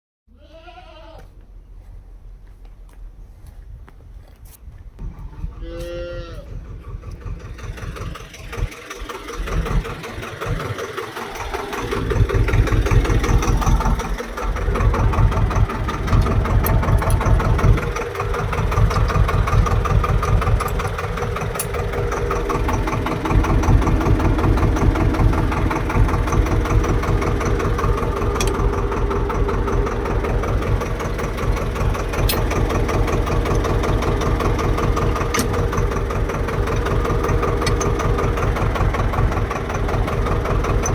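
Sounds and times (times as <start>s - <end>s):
tractor diesel engine starting: 5.1s - 40.9s.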